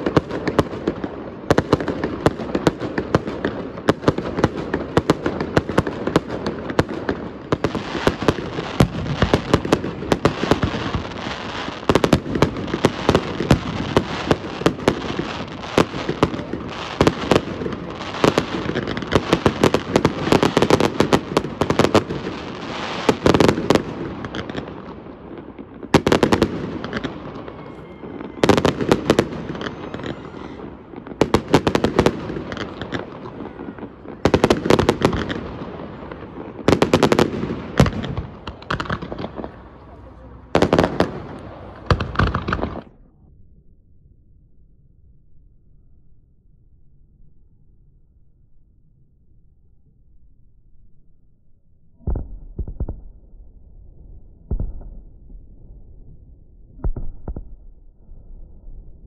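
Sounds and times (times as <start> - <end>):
fireworks bangs and crackles: 0.0 - 43.1, 52.0 - 59.0.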